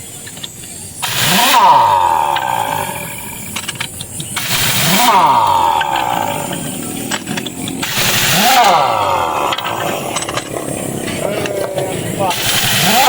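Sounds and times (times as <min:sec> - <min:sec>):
pneumatic impact wrench: 0:00.0 - 0:13.0.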